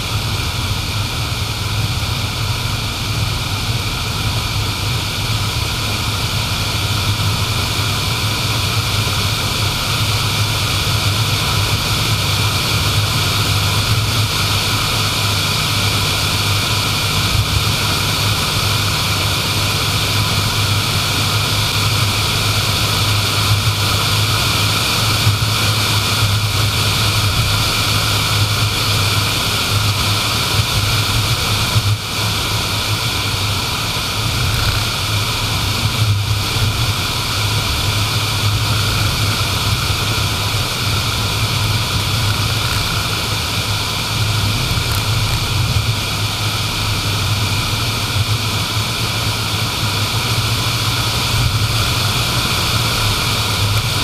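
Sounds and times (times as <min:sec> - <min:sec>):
low car engine hum: 0:00.0 - 0:54.0
tyre and road noise: 0:00.0 - 0:54.0.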